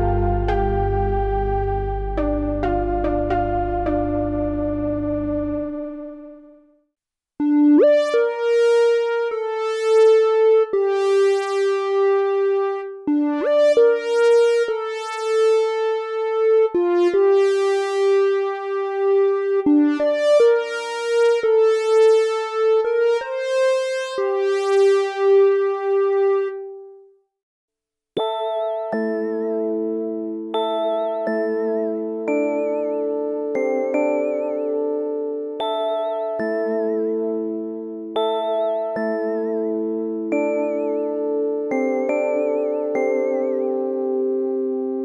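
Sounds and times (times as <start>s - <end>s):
synthesizer playing slow melody: 0.0s - 6.8s, 7.4s - 27.1s, 28.2s - 45.0s.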